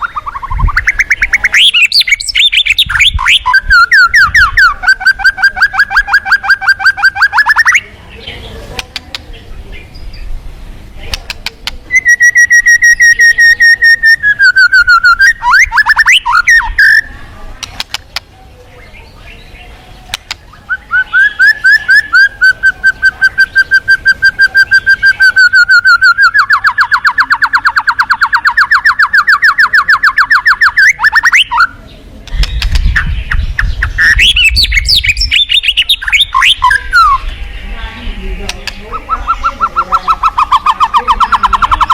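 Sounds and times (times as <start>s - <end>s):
bird singing whistled notes: 0.0s - 8.4s, 11.9s - 17.2s, 18.8s - 41.9s.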